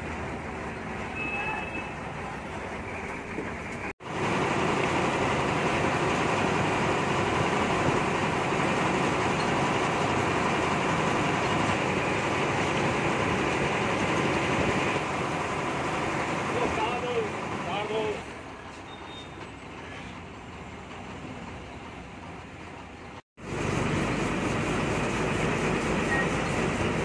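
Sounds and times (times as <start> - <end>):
bus engine and road noise: 0.0 - 27.0.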